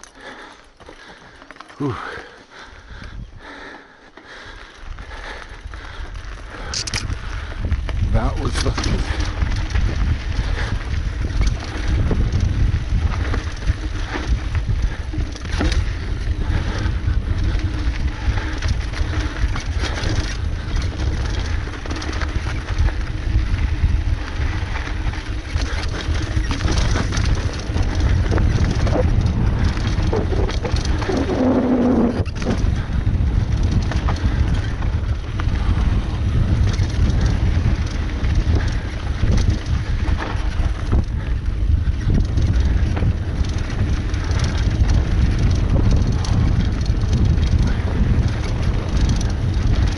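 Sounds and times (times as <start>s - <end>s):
bike clicks and rattles: 0.0s - 49.9s
tyres over dirt and rocks: 0.0s - 49.9s
wind rumbling on microphone: 0.0s - 49.9s.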